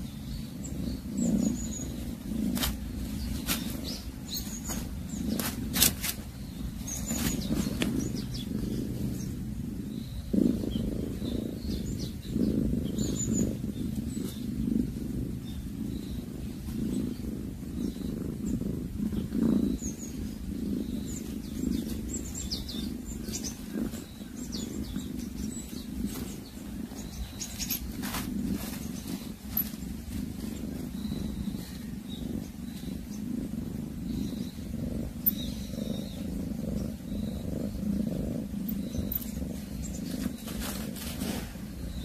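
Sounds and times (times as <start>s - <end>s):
cat growling: 0.0s - 42.0s.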